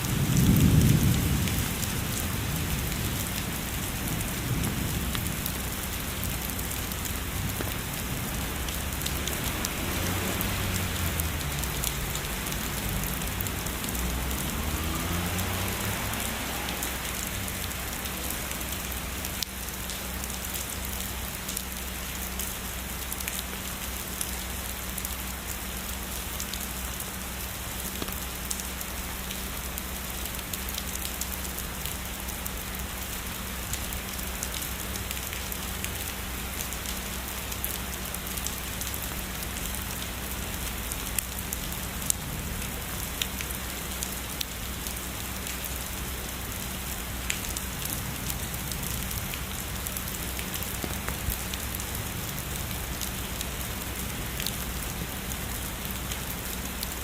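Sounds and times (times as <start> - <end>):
heavy rainfall hiss: 0.0 - 57.0
raindrops ticking close by: 0.0 - 57.0.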